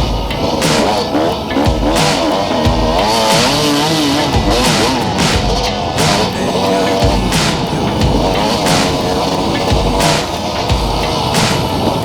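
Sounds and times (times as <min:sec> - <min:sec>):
loud music with heavy beat: 0:00.0 - 0:12.0.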